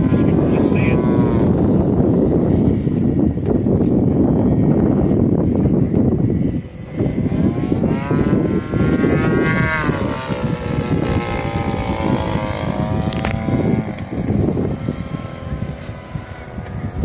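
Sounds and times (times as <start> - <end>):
model plane engine and propeller: 0.0 - 17.0.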